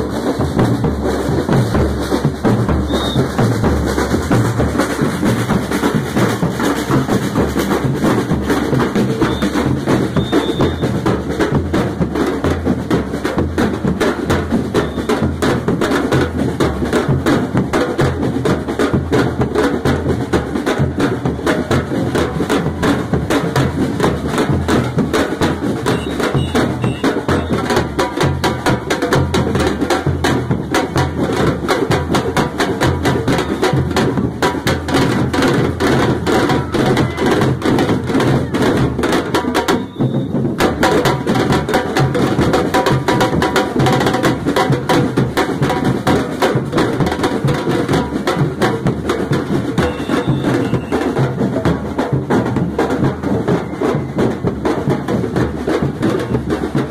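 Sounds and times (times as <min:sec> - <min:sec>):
bass drum beaten with mallet: 0:00.0 - 0:56.9
street percussion band: 0:00.0 - 0:56.9.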